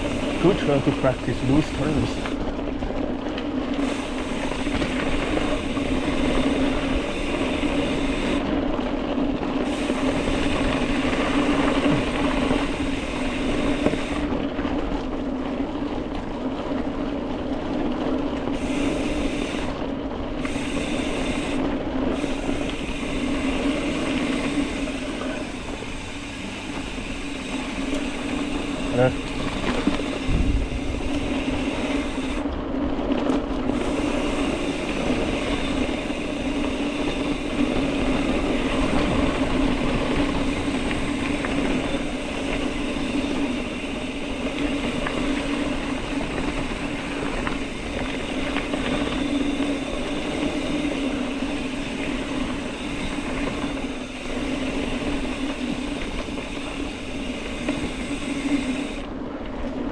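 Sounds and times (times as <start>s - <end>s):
bike rattles and clicks: 0.0s - 59.9s
bike tyres on dirt trail: 0.0s - 59.9s.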